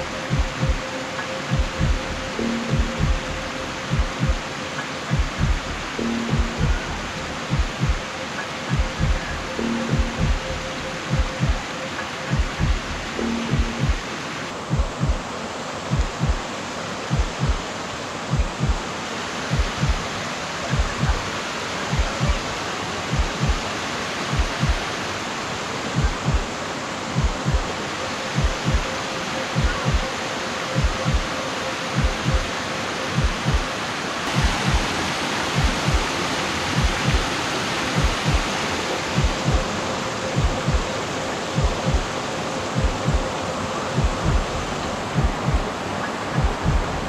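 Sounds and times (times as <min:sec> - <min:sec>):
creek water flowing: 0:00.0 - 0:47.0.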